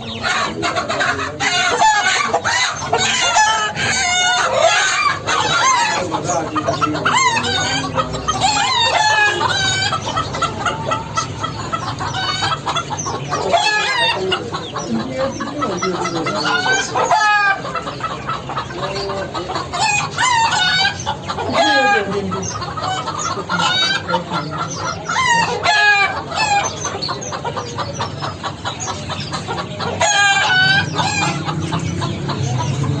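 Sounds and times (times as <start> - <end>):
chickens clucking: 0.0 - 33.0
roosters crowing: 0.0 - 33.0.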